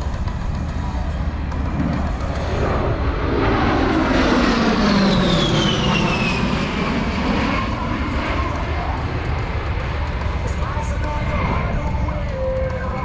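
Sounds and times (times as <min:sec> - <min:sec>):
high jet whine: 0:00.0 - 0:13.0
jet fly-past: 0:00.0 - 0:13.0.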